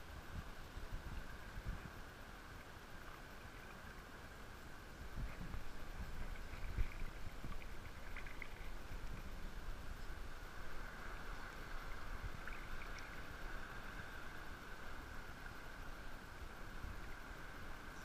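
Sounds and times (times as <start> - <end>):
water lapping and sloshing: 0.9 - 18.0.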